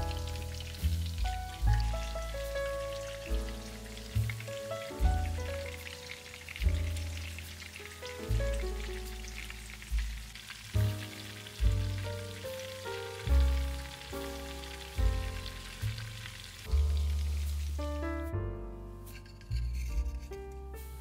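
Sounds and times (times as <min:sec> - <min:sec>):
food sizzling in a pan: 0:00.0 - 0:18.0
instrumental music with deep bass: 0:00.0 - 0:21.0.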